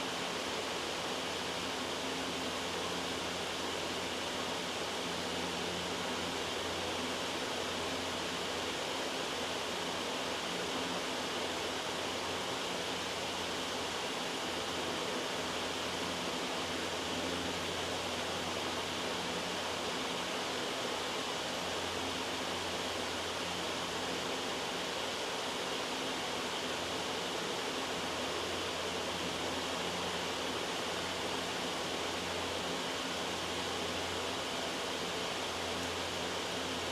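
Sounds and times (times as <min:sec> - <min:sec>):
loud white noise hiss: 0:00.0 - 0:36.9.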